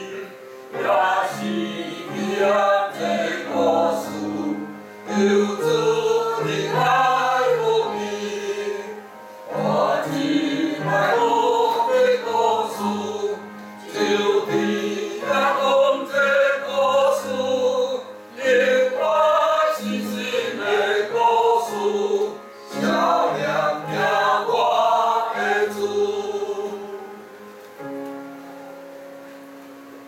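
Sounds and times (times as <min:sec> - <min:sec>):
choir singing a hymn: 0:00.0 - 0:27.5.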